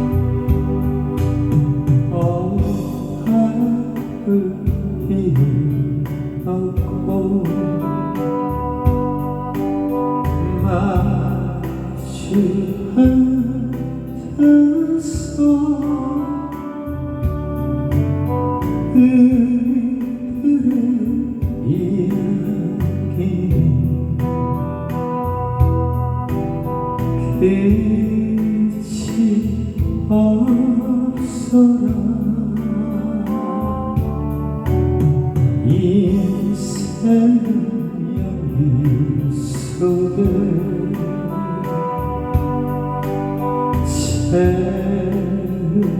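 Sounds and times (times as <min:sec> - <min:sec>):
instrumental ballad music with beat: 0:00.0 - 0:45.9
slow song with guitar and keyboard: 0:00.0 - 0:45.9.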